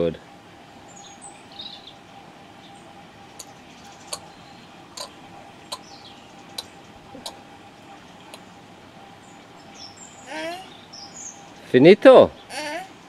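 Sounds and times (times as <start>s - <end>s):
faint steady hum: 0.0s - 13.0s
bird chirp: 0.8s - 13.0s.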